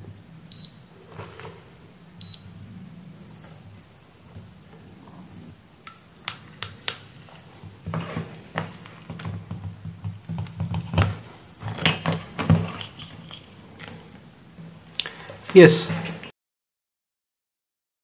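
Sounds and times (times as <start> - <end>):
low steady hum: 0.0 - 16.3.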